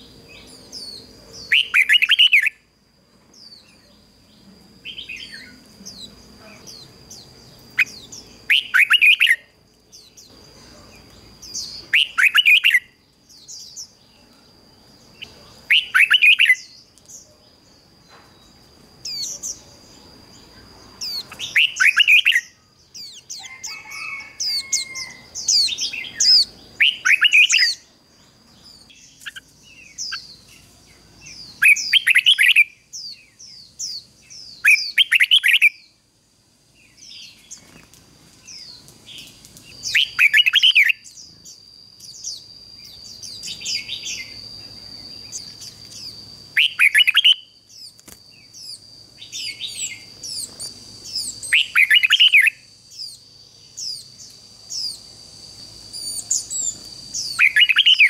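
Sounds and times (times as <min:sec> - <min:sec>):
soft bird chirps: 0:00.0 - 0:36.0, 0:36.8 - 0:58.0
bird singing: 0:00.0 - 0:36.1, 0:36.7 - 0:58.0.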